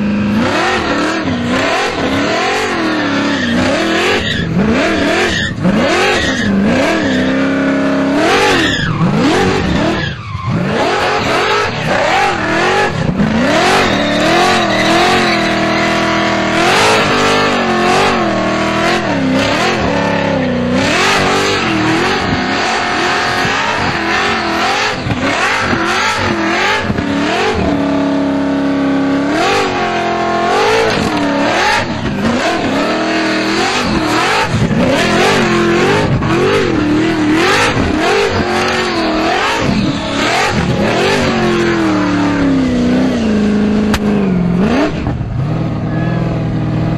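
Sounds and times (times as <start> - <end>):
engine revving in burnout: 0.0 - 46.9.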